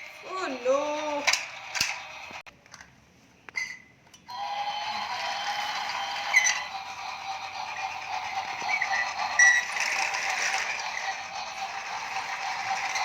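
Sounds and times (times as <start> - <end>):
toy train motor whirring: 0.0 - 2.4, 4.3 - 13.0
toy train clicks and knocks: 0.1 - 2.9, 4.3 - 13.0.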